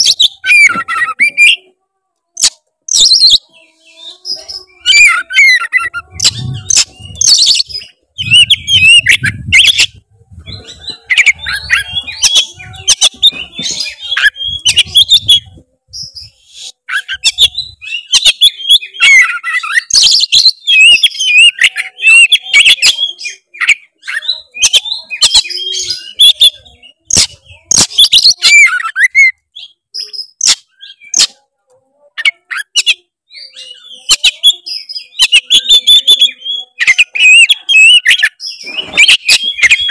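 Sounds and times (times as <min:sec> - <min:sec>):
bird singing whistles and chirps: 0:02.4 - 0:31.3, 0:32.5 - 0:39.9.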